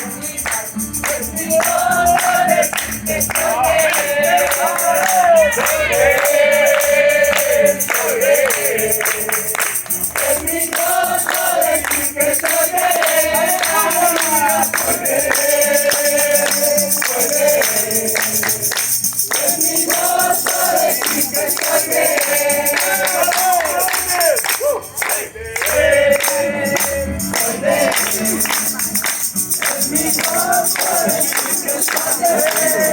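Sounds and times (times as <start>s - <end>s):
group singing gospel chorus: 0.0s - 32.9s
tambourine beat: 0.0s - 32.9s.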